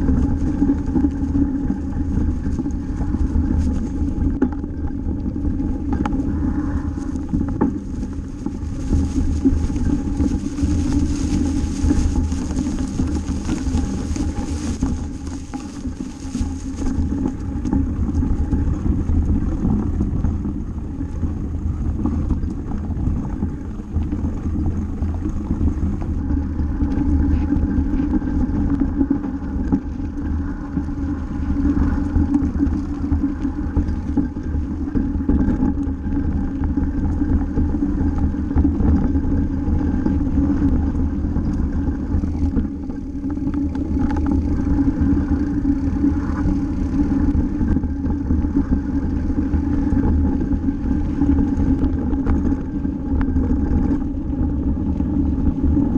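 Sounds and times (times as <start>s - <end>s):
bike rattling over bumps: 0.0s - 55.9s
bike tyres rolling on dirt: 0.0s - 55.9s
wind over microphone: 0.0s - 55.9s.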